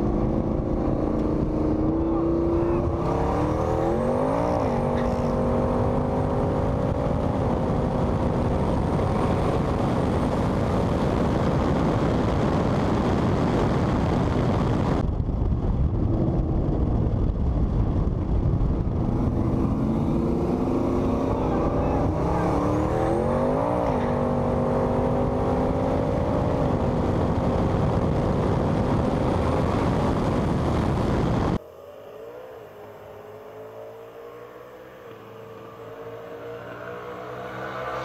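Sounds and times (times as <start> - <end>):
engine revving at full throttle: 0.0 - 13.7, 18.7 - 38.0
wind and road noise: 0.0 - 38.0.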